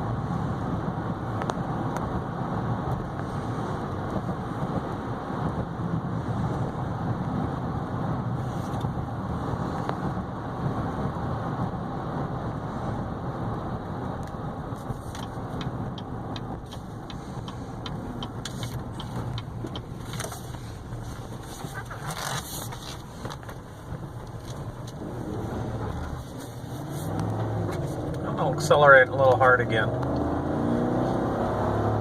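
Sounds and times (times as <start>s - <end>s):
tyre and wind noise: 0.0s - 28.5s
low engine hum: 0.0s - 32.0s.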